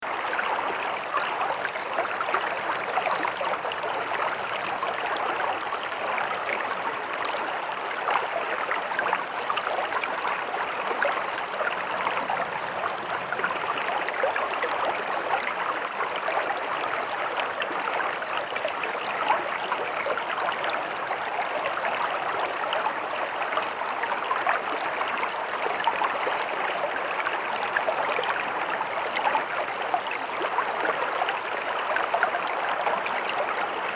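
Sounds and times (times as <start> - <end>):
stream burbling over stones: 0.0 - 33.9.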